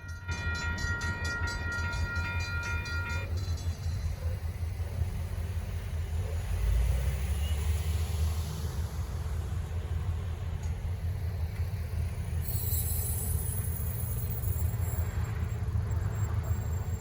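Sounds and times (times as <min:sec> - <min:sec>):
diesel locomotive engines rumbling: 0:00.0 - 0:17.0.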